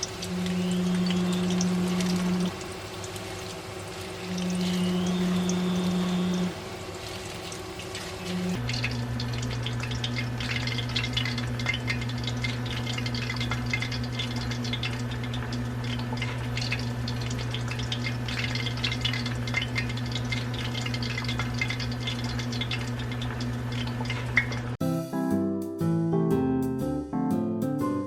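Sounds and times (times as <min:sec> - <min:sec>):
steady low hum: 0:00.0 - 0:02.9, 0:03.7 - 0:06.8, 0:07.9 - 0:24.8
chicken deep-frying in oil: 0:00.0 - 0:24.8.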